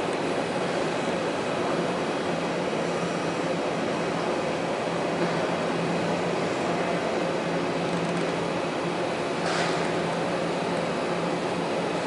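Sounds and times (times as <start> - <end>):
heavy machinery engines droning: 0.0 - 12.0.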